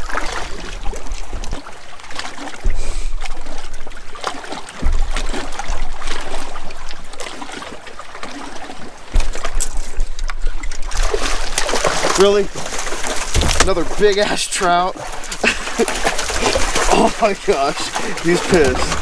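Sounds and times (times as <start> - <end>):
water trickling and lapping: 0.0 - 19.0.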